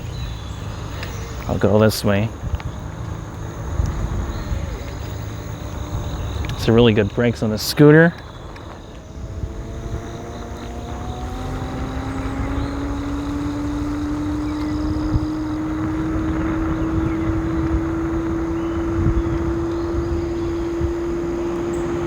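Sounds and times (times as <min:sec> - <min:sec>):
electric scooter motor whining: 0:00.0 - 0:22.0
tyre noise: 0:00.0 - 0:22.0
wind noise: 0:00.0 - 0:22.0.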